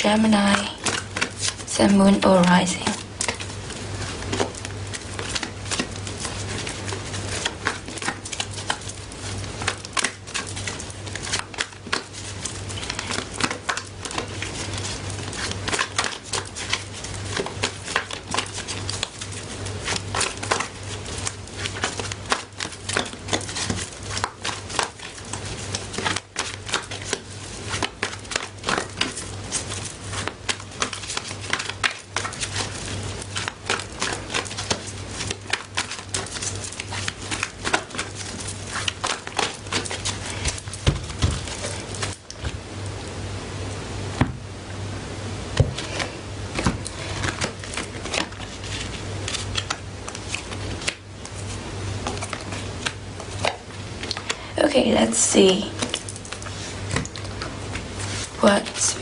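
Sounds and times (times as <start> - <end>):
cards being shuffled by hand: 0.0 - 42.6, 45.5 - 59.0
low electrical hum: 0.0 - 59.0.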